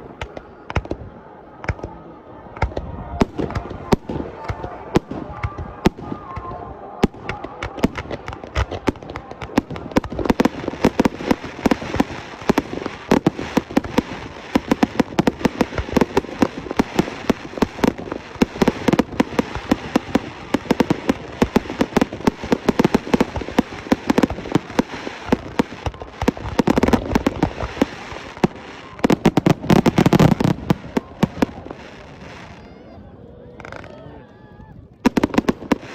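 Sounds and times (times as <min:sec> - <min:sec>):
fireworks bangs and crackles: 0:00.0 - 0:32.8, 0:33.6 - 0:34.0, 0:34.9 - 0:35.9.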